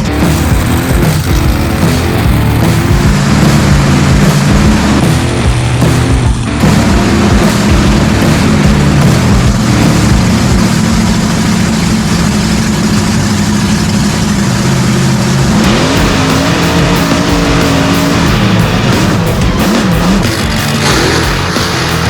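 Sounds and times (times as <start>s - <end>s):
truck engine running hard: 0.0s - 22.0s.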